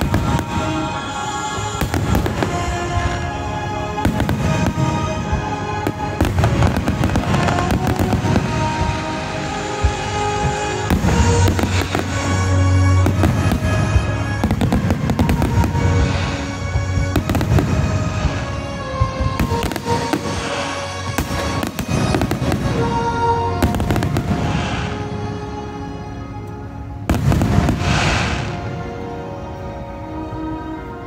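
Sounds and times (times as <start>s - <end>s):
firework shells bursting and crackling: 0.0s - 25.1s, 27.1s - 28.7s
loud music: 0.0s - 31.0s.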